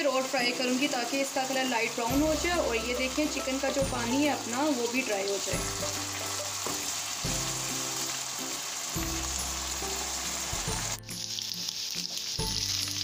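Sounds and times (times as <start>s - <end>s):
chicken sizzling in a pan: 0.0s - 13.0s
soft background music: 0.0s - 13.0s.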